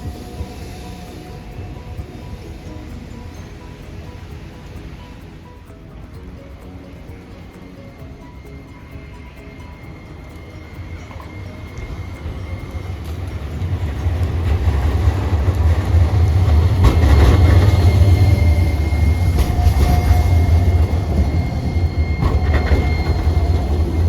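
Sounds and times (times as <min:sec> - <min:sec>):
faint high whine: 0:00.0 - 0:24.0
streetcar rumbling past: 0:00.0 - 0:24.0
wheels clacking over rail joints: 0:00.0 - 0:24.0.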